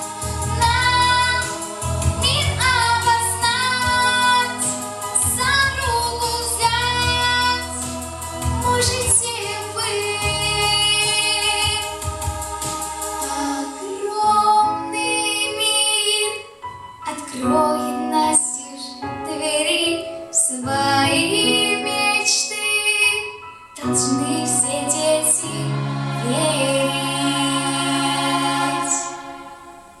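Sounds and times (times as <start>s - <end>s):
instrumental backing track: 0.0s - 30.0s
woman singing: 0.2s - 12.1s, 13.2s - 29.2s.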